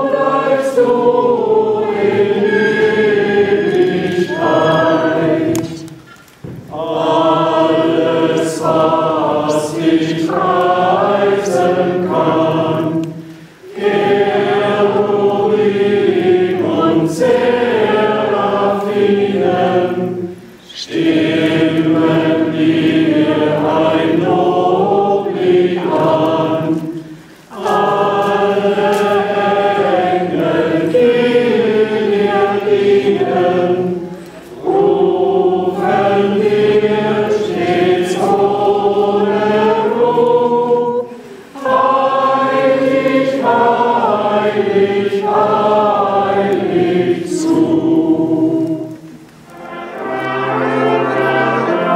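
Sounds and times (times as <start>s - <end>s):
crowd singing unaccompanied: 0.0s - 51.9s.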